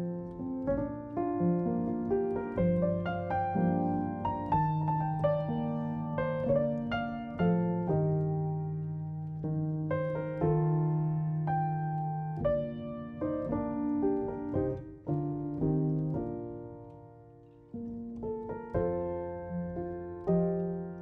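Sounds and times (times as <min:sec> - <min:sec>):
soft solo piano: 0:00.0 - 0:21.0.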